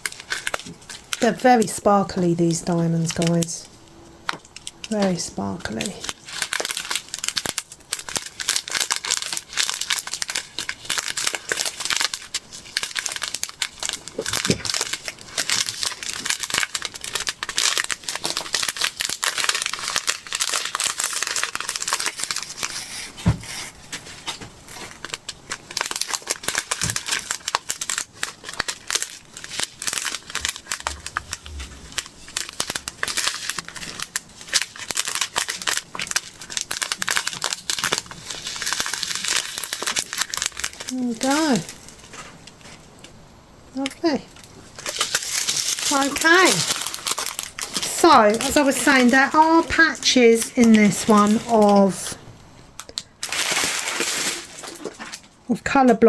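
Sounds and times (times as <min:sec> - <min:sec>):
plastic bags crinkling: 0:00.0 - 0:43.1, 0:43.8 - 0:55.4.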